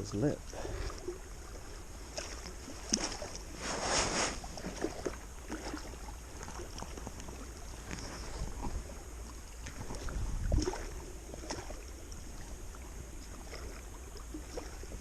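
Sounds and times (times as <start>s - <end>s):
water lapping against a kayak: 0.0s - 15.0s
water splash: 0.4s - 15.0s
wind rumble on microphone: 1.0s - 15.0s.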